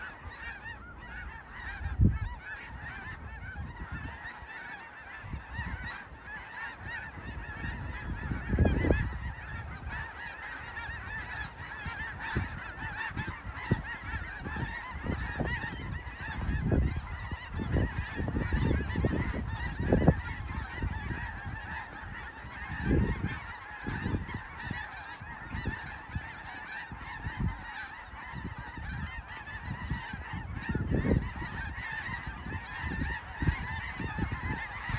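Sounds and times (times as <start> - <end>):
flock of geese honking: 0.0 - 34.9.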